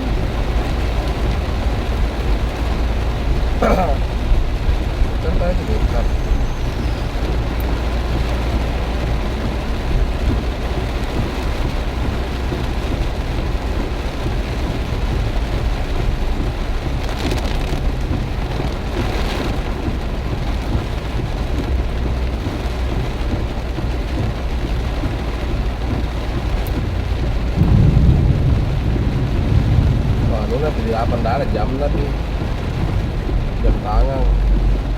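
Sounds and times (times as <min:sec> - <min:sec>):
heavy rain pouring: 0:00.0 - 0:34.9
low rumble: 0:00.0 - 0:34.9
wind buffeting microphone: 0:00.0 - 0:34.9.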